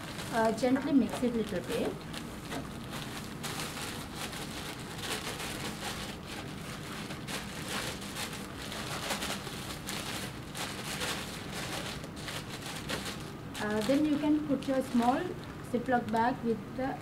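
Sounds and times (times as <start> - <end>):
plastic bag crinkling: 0.0 - 16.4.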